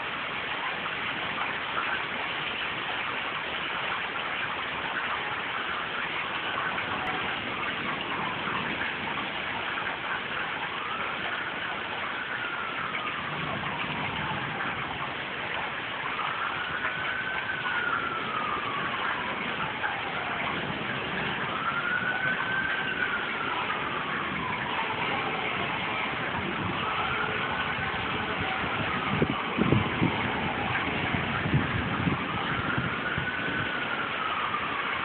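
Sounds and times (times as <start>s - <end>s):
distant emergency siren wailing: 0.0s - 35.0s
heavy rain falling: 0.0s - 35.0s.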